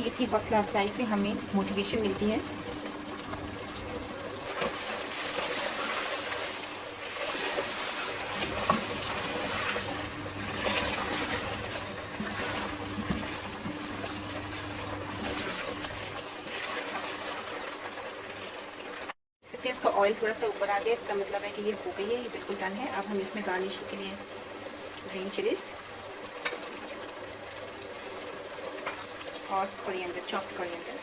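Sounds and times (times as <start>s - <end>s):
curry sizzling and bubbling in oil: 0.0s - 31.0s.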